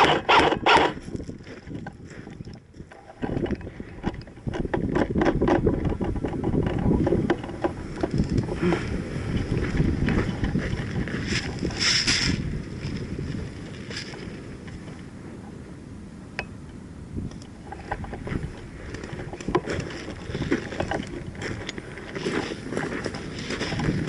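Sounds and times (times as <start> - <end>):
sharp clicks and rustles: 0.0 - 15.1, 16.7 - 24.0
wind buffeting microphone: 0.0 - 24.0.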